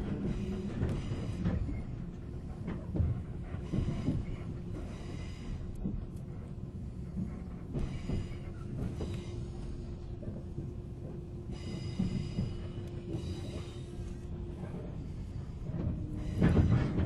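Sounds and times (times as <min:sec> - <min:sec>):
constant hum: 0:00.0 - 0:17.0
train rumbling on rails: 0:00.0 - 0:17.0.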